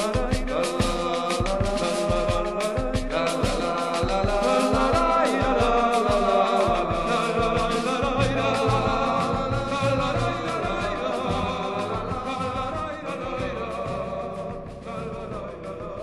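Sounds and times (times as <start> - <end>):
instrumental carnival music: 0.0 - 16.0.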